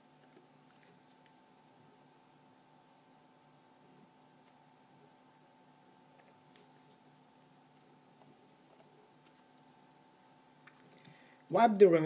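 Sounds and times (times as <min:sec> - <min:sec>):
background hiss: 0:00.0 - 0:12.0
faint hum: 0:00.0 - 0:12.0.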